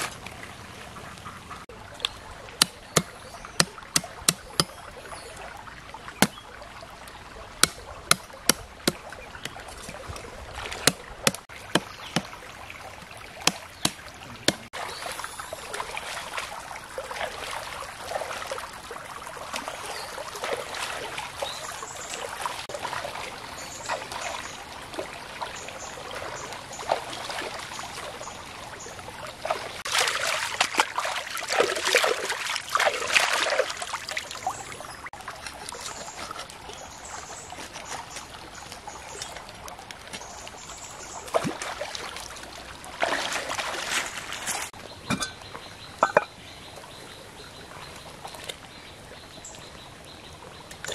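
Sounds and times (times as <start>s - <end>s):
water sloshing and splashing: 0.0s - 50.9s.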